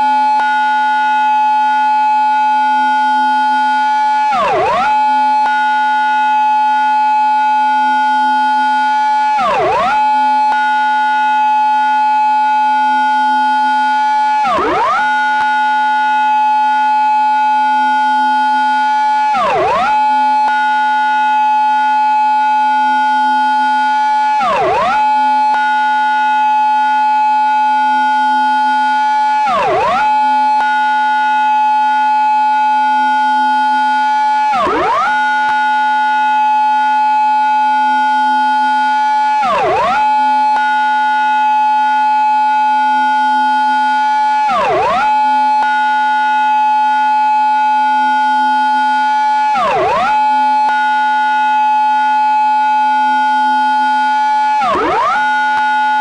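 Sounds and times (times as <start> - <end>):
police siren: 0.0 - 56.0.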